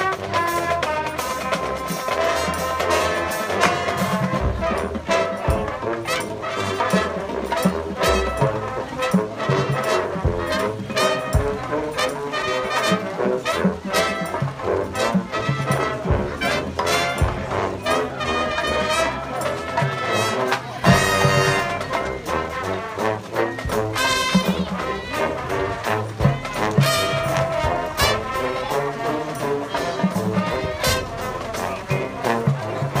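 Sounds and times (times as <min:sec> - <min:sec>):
brass horns playing chords: 0:00.0 - 0:33.0
marching drums: 0:00.0 - 0:33.0.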